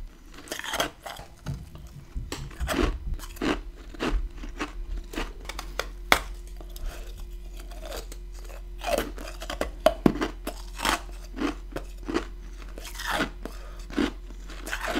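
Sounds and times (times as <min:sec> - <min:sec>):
crunching and chewing ice: 0:00.0 - 0:14.9.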